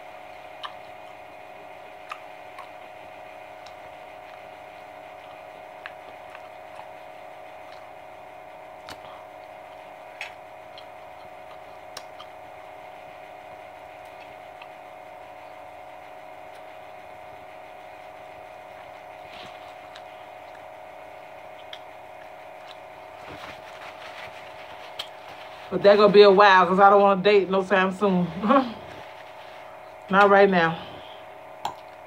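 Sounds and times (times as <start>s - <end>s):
steady hum: 0.0s - 32.0s
chewing and eating sounds: 0.3s - 25.8s, 31.0s - 32.0s.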